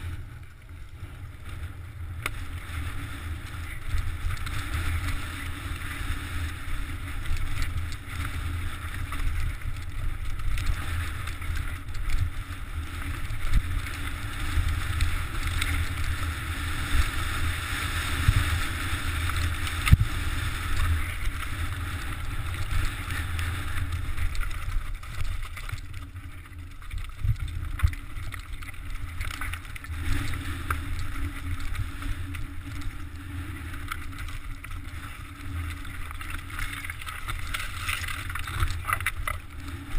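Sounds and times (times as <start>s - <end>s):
bike rattling: 0.0s - 39.9s
bike tyres crunching over stone: 0.0s - 39.9s.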